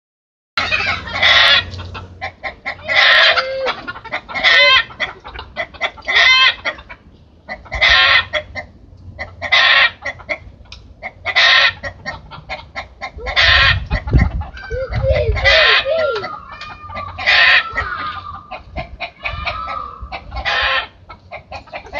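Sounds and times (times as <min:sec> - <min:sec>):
hen cackling and squawking: 0:00.6 - 0:21.9.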